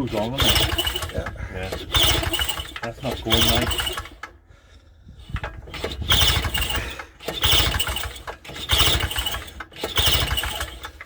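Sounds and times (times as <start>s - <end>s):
small engine pull-start: 0.0s - 4.4s, 5.1s - 11.0s.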